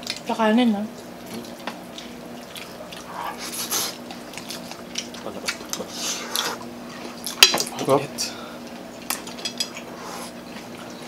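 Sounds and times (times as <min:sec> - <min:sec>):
wet chewing and smacking: 0:00.0 - 0:00.3, 0:00.9 - 0:07.8, 0:08.6 - 0:11.0
faint steady hum: 0:00.0 - 0:11.0.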